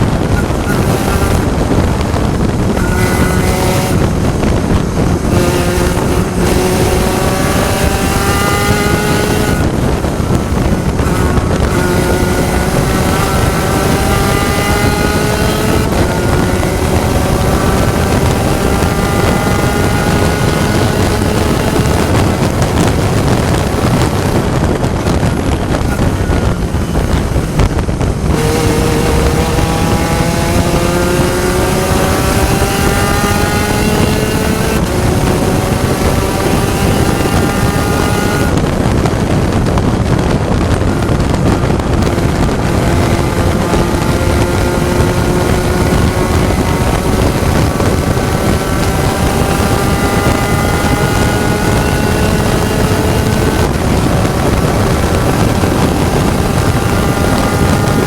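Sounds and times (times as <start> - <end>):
race car engine accelerating: 0.0 - 58.0
wind and road noise: 0.0 - 58.0.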